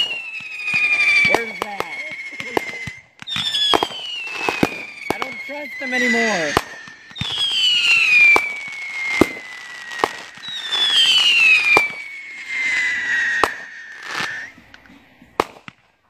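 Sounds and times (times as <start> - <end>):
firework whistles falling in pitch: 0.0 - 15.8
firework bangs: 0.0 - 15.9.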